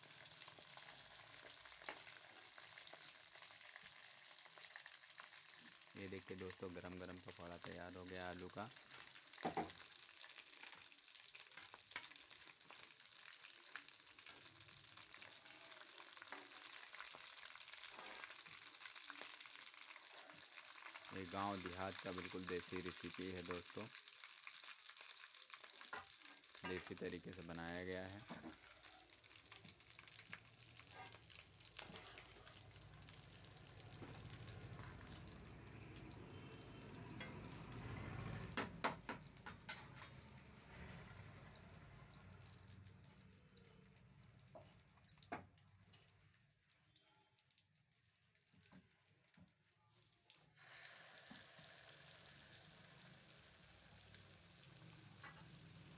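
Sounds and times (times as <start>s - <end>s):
oil sizzling while deep-frying: 0.0s - 55.9s.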